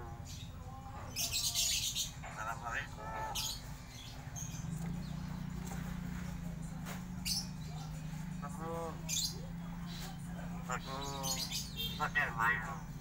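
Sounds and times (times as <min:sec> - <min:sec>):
myna bird calling: 0:01.1 - 0:13.0.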